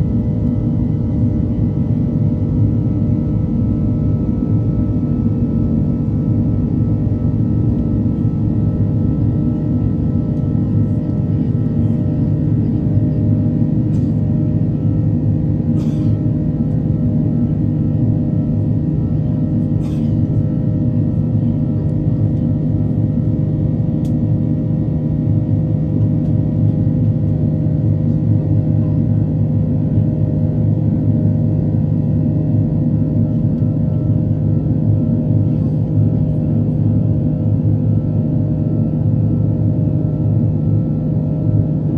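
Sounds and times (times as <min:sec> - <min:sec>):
jet engine drone in cabin: 0:00.0 - 0:41.9.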